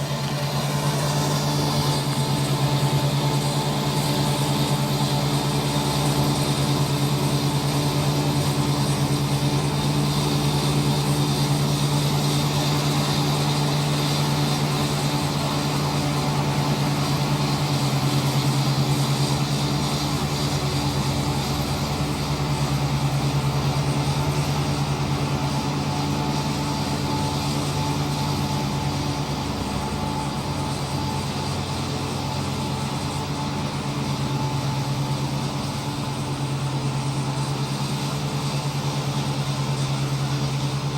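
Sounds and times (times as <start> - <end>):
harvester engine droning: 0.0 - 40.9.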